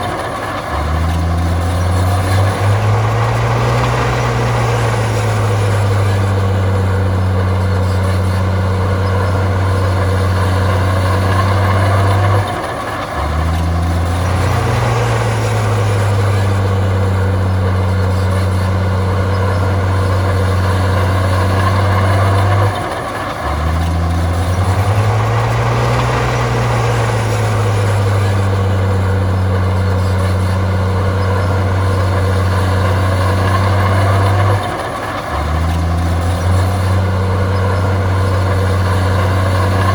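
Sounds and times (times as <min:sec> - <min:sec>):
diesel bulldozer engine: 0:00.0 - 0:39.9.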